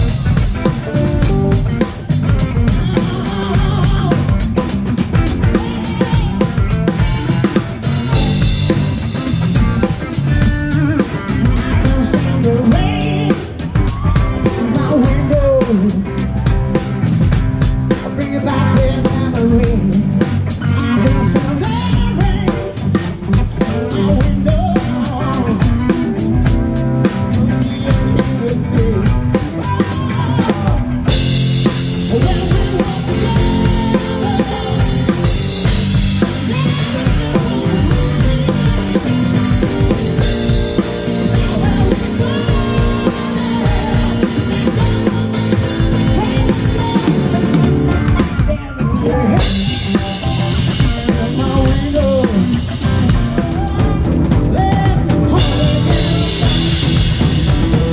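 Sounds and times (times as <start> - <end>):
drum beat: 0.0 - 28.1, 30.1 - 48.6, 49.4 - 57.9
bass and guitar: 0.0 - 57.9.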